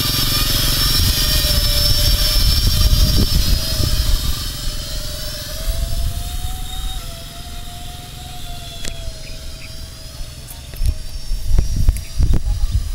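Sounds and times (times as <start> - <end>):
drone motors whining: 0.0 - 12.9
low rumble: 0.3 - 12.9.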